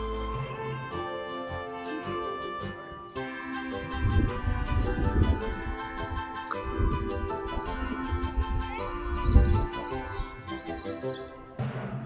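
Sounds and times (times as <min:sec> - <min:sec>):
melodic music over a beat: 0:00.0 - 0:12.0.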